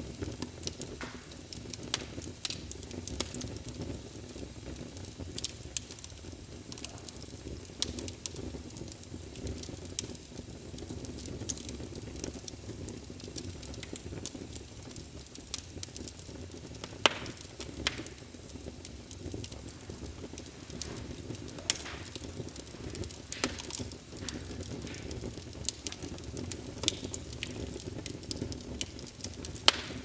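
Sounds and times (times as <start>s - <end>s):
fire popping and snapping: 0.0s - 30.0s
low rumble of flames: 0.0s - 30.0s.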